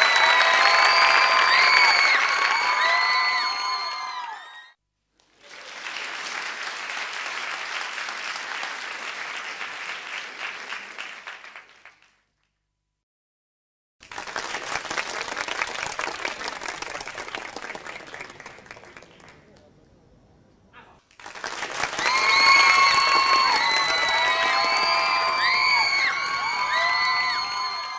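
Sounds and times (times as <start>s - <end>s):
studio audience applause: 0.0s - 12.3s, 14.0s - 19.6s, 21.1s - 27.9s.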